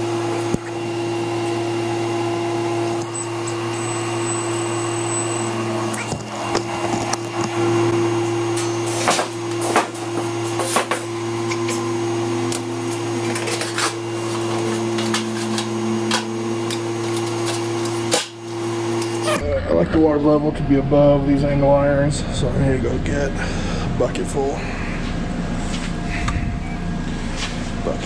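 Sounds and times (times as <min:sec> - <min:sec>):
machinery electric hum: 0:00.0 - 0:28.0.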